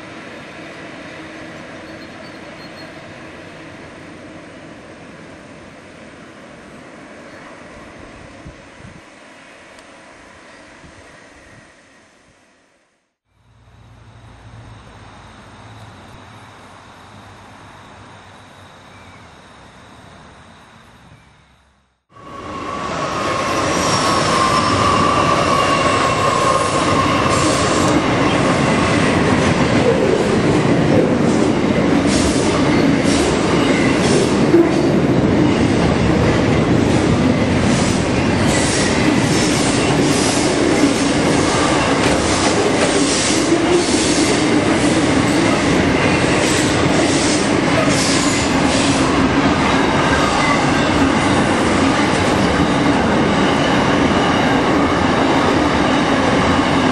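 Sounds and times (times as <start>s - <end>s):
freight train passing: 0.0s - 56.9s.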